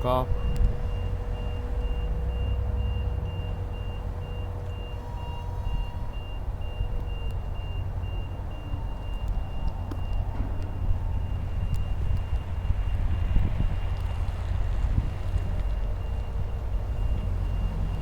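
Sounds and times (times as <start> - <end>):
reversing alarm beeping: 0.0 - 14.1, 15.6 - 18.0
steady low rumble: 0.0 - 18.0.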